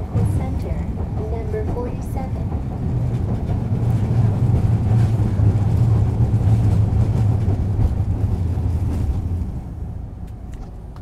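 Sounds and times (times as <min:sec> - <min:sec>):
streetcar motor hum: 0:00.0 - 0:11.0
wheels rumbling on rails: 0:00.0 - 0:11.0.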